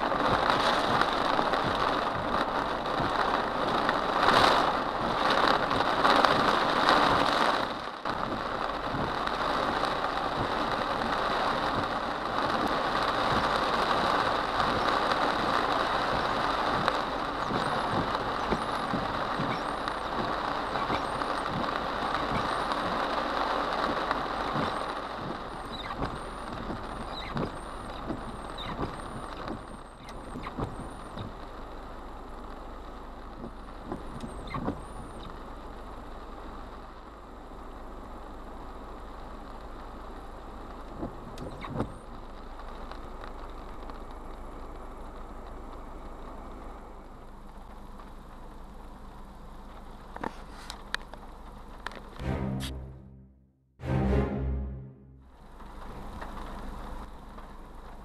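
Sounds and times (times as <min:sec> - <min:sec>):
heavy rain on car roof: 0:00.0 - 0:52.2, 0:55.3 - 0:58.0
large raindrop ticks: 0:00.0 - 0:52.2, 0:55.5 - 0:58.0.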